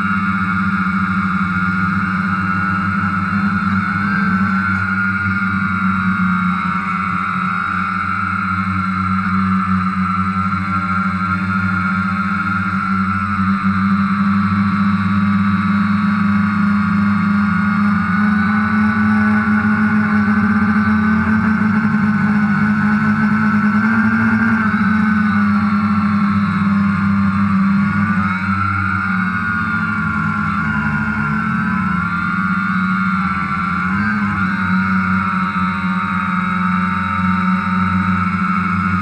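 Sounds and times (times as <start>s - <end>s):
quadcopter propellers buzzing: 0.0s - 39.0s.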